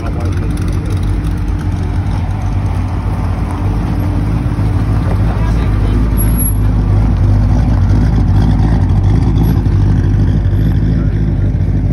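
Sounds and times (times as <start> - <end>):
pickup truck engine driving past: 0.0 - 11.9.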